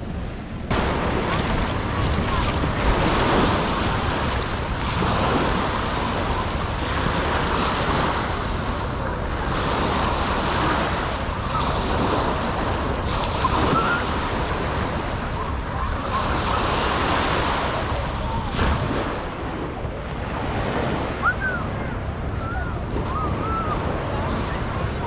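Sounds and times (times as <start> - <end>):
waves washing onto beach: 0.0 - 25.0
wind on microphone: 0.0 - 25.0.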